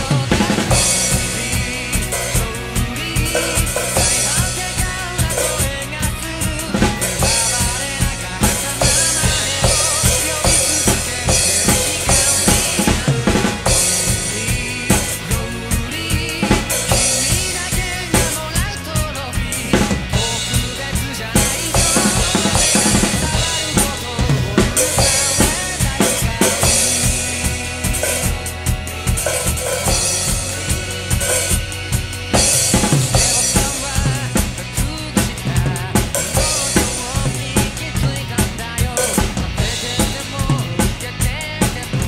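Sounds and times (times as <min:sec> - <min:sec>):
acoustic drum kit played hard: 0:00.0 - 0:42.0
recorded rock band with guitars: 0:00.0 - 0:42.0.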